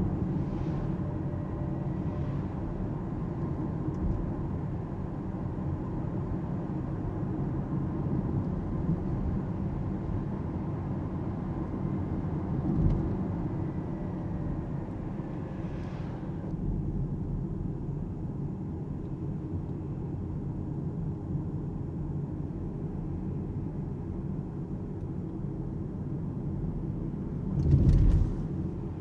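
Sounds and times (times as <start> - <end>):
road and tyre rumble: 0.0 - 29.0.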